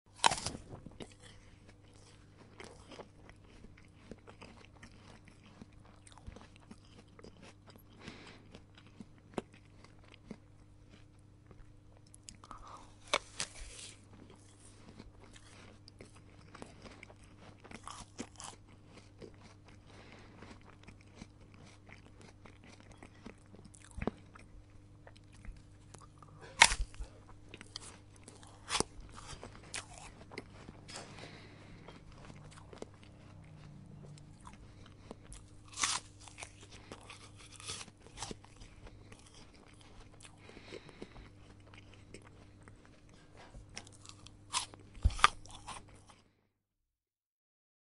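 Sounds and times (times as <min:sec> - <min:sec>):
person chewing an apple: 0:00.1 - 0:46.3
faint low hum: 0:00.1 - 0:46.4.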